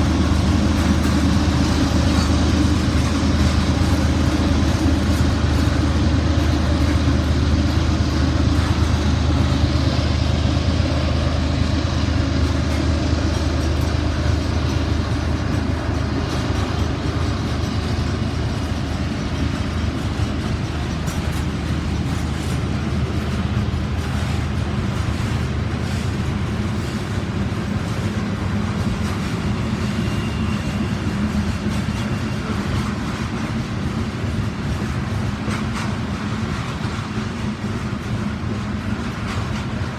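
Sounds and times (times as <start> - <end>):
freight cars rolling on rails: 0.0 - 39.9
locomotive engine drone: 0.0 - 39.9.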